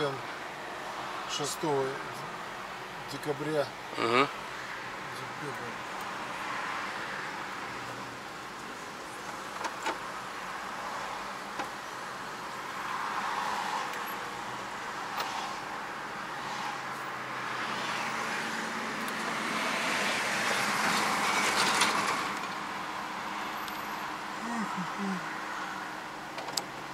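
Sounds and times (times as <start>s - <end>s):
tyre and engine noise in car: 0.0s - 26.9s.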